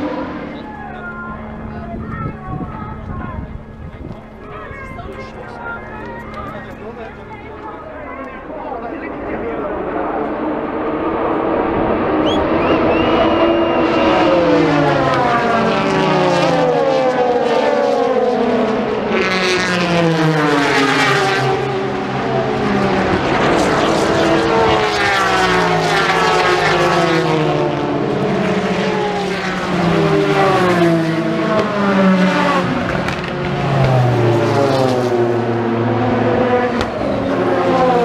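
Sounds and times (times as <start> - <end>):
racing cars passing by: 0.0 - 2.3, 3.0 - 38.0.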